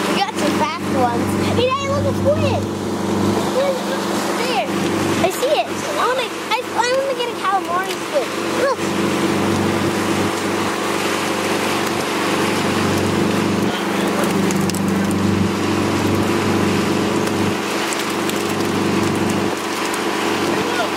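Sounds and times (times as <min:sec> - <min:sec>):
boat engine droning: 0:00.0 - 0:20.9
rush of boat wake: 0:00.0 - 0:20.9
wind: 0:00.0 - 0:20.9.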